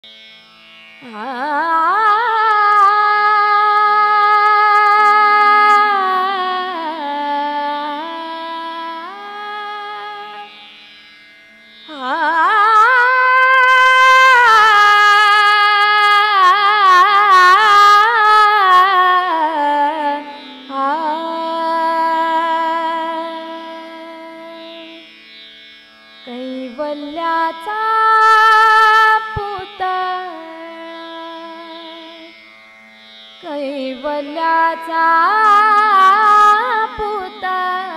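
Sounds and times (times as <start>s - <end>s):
woman singing wordless notes: 1.0s - 10.5s, 11.9s - 25.0s, 26.3s - 32.3s, 33.4s - 37.9s.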